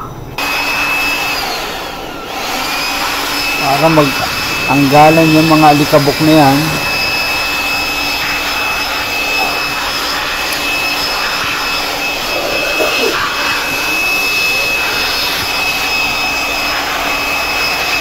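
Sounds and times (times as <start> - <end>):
vacuum cleaner whining: 0.0 - 18.0.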